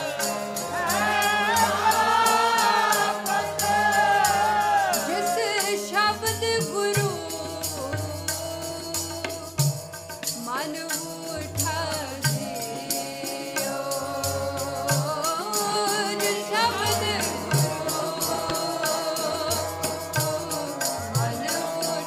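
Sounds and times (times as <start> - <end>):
woman singing a hymn: 0.0 - 9.6, 10.4 - 22.0
harmonium notes: 0.0 - 22.0
jingling percussion: 0.0 - 22.0.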